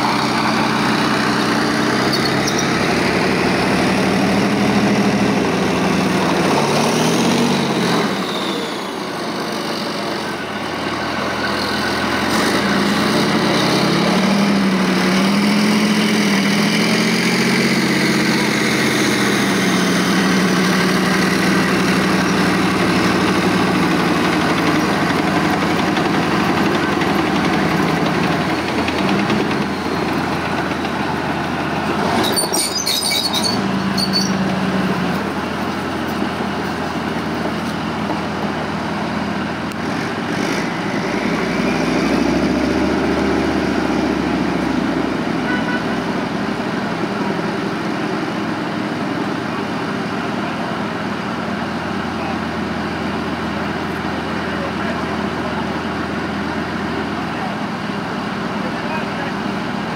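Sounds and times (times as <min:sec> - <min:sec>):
tank diesel engine running: 0:00.0 - 0:59.9.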